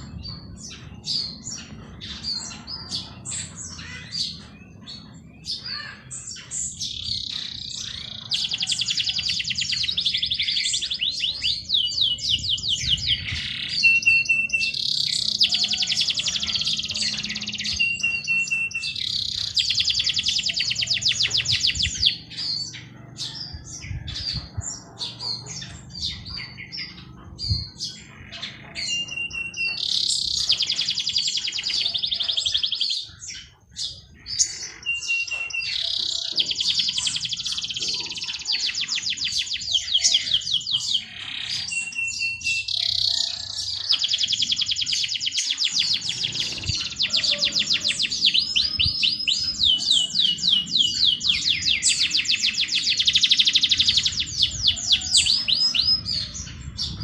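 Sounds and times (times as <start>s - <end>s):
bird singing trilled phrases: 0.0s - 57.0s
songbirds chirping: 0.0s - 57.0s.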